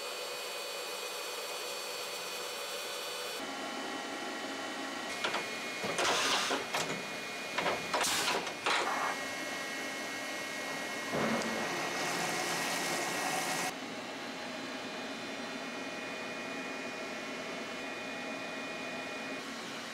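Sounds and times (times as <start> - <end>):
milling machine humming: 2.0 - 19.9.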